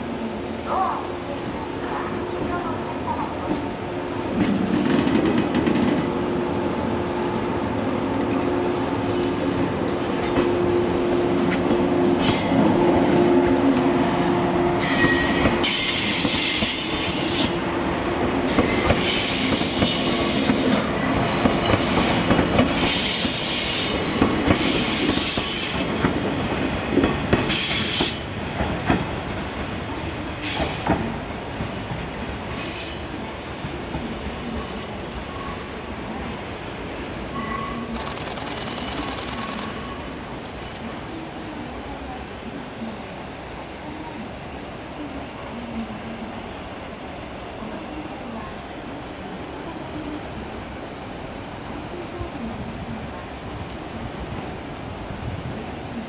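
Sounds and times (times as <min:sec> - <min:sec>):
electric train hum: 0:00.0 - 0:56.0
rail noise: 0:00.0 - 0:56.0.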